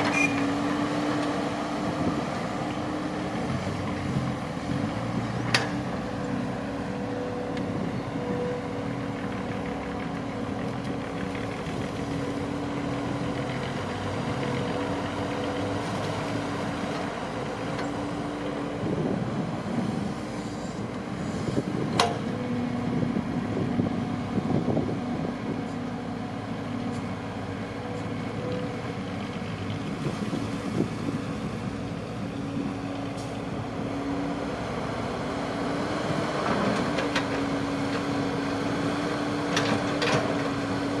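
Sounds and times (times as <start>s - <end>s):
harvester engine running under load: 0.0s - 41.0s.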